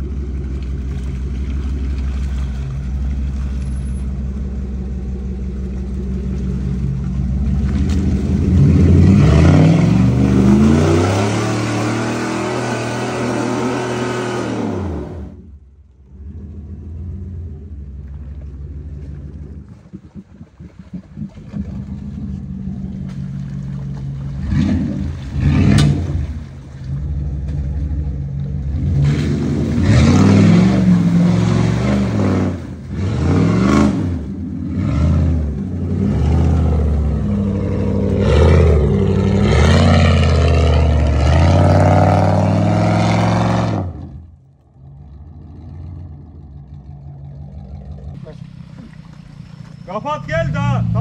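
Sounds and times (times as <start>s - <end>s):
suv engine revving: 0.0s - 51.0s.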